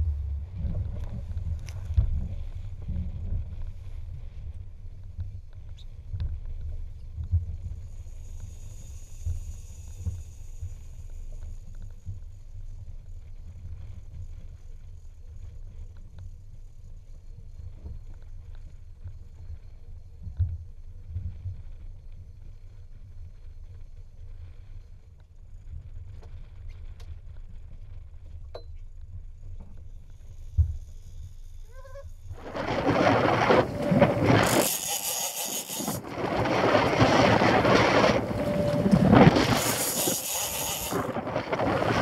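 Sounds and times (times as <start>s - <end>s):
wind and sea rumble: 0.0s - 42.0s.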